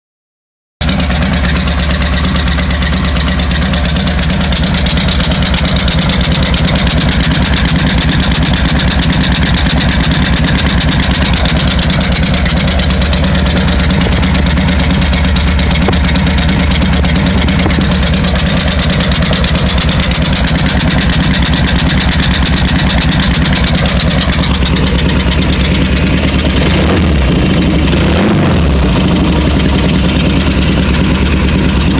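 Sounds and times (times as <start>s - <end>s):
motorcycle engine idling: 0.8s - 31.9s.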